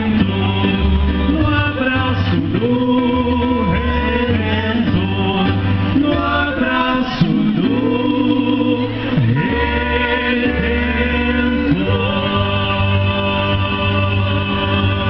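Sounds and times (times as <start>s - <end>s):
held bass notes: 0.0s - 15.0s
song with singing voices: 0.0s - 15.0s.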